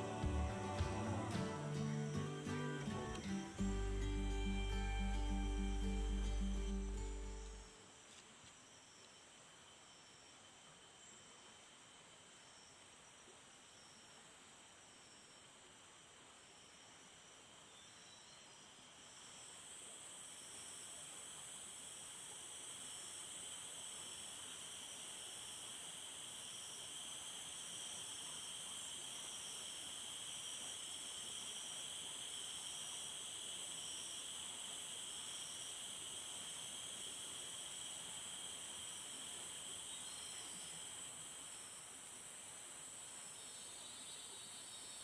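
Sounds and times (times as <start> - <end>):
insect chorus drone: 0.0 - 45.0.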